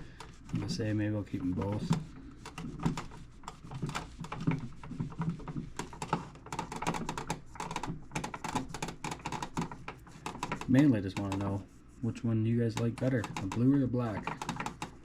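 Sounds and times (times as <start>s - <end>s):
light clicks and taps: 0.2s - 11.6s, 12.7s - 15.0s.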